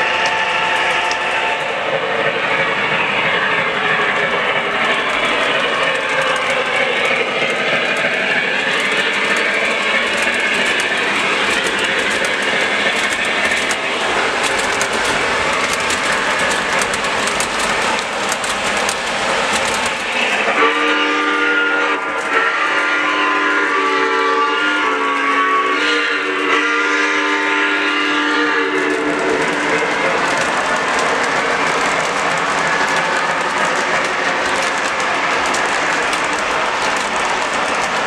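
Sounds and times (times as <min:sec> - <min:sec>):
model train running noise: 0:00.0 - 0:38.0
wheels clicking over track: 0:00.0 - 0:38.0.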